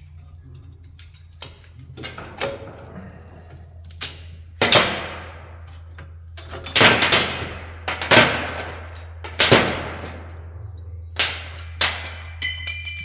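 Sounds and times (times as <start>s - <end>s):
metal clanks: 0.0s - 13.0s.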